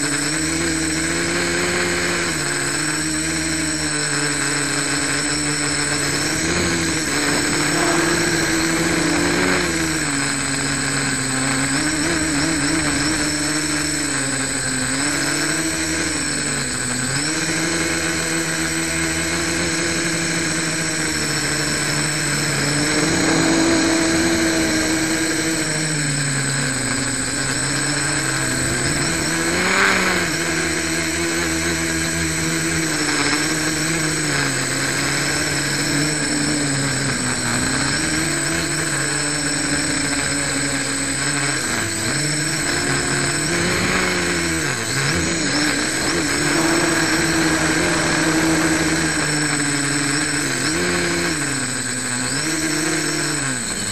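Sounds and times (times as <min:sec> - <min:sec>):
quadcopter motors whining: 0:00.0 - 0:53.9.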